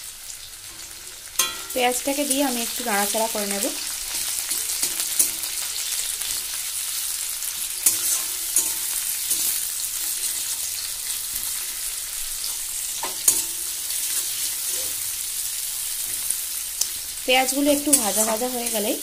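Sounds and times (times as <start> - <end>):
onions sizzling in oil: 0.0 - 19.0
metal spatula scraping a pan: 0.6 - 19.0.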